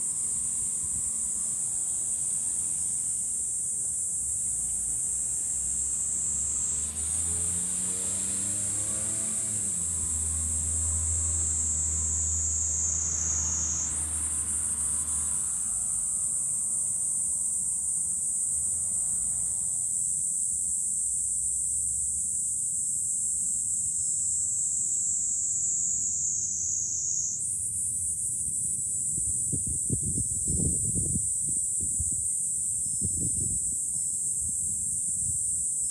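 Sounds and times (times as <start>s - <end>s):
cicadas singing: 0.0s - 35.9s.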